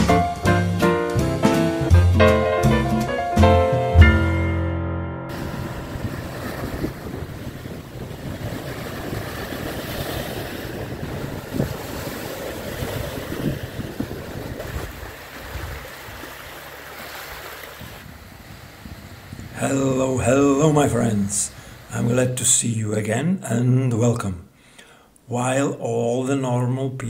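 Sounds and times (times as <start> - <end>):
sea surf washing in: 0.0 - 22.2
wind: 5.3 - 27.0.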